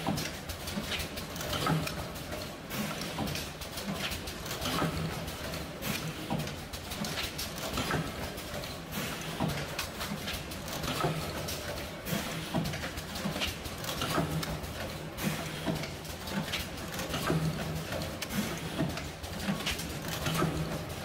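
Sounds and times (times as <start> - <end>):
machine clacking: 0.0 - 21.0.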